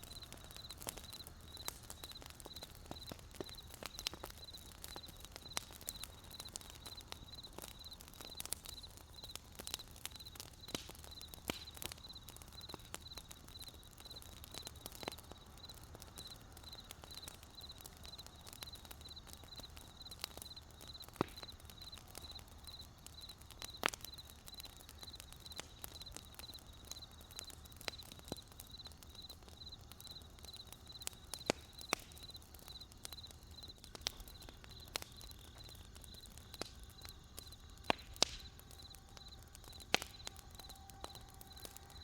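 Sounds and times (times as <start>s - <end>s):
crickets chirping: 0.0s - 14.8s, 15.4s - 42.0s
campfire crackling and popping: 0.0s - 42.0s.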